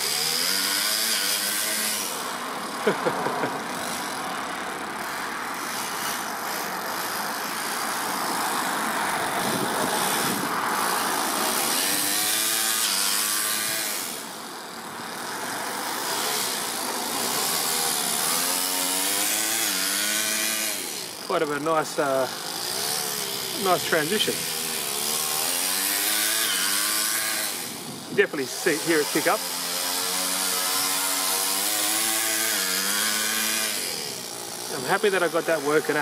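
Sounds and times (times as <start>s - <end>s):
model car engine revving: 0.0s - 36.0s.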